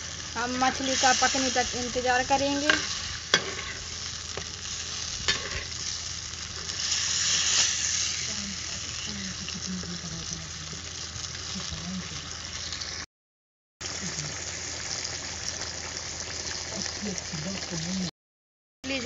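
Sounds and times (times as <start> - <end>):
fish sizzling in a pot: 0.0 - 13.1, 13.8 - 18.1.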